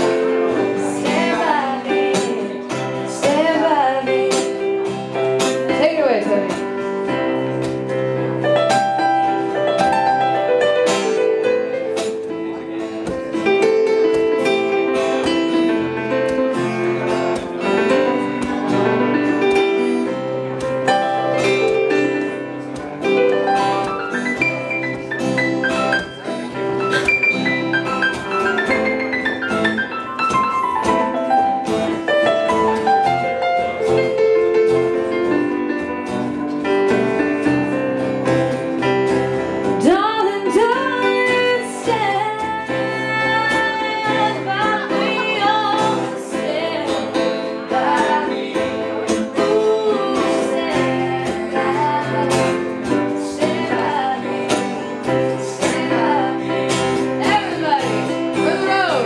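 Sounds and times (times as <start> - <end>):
acoustic guitar: 0.0 - 59.0
keyboard playing: 0.0 - 59.0.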